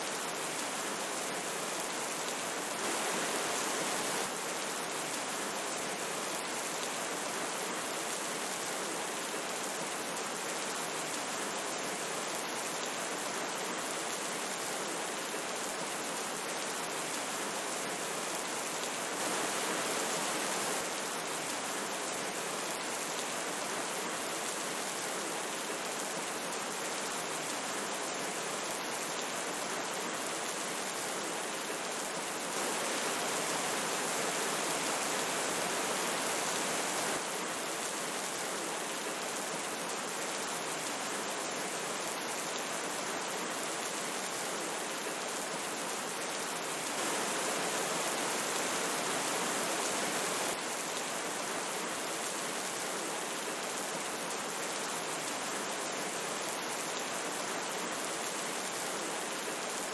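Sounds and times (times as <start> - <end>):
rushing forest stream: 0.0 - 59.9
steady rain: 0.0 - 59.9.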